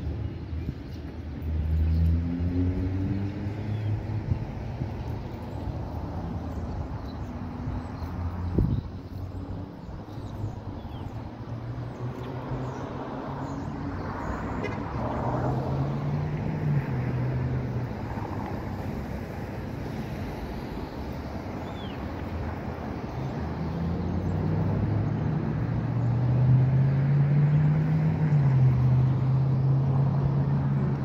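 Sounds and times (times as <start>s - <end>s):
road traffic hum: 0.0s - 31.0s.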